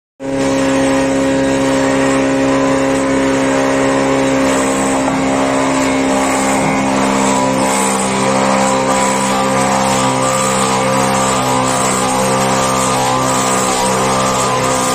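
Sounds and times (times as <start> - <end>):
planer running: 0.2 - 14.9
bit drilling into wood: 0.3 - 14.9.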